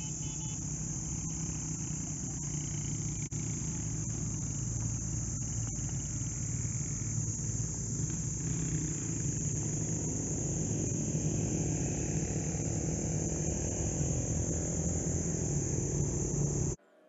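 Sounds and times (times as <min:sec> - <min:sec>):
engine idling: 0:00.0 - 0:16.8
high-pitched hiss: 0:00.0 - 0:16.8.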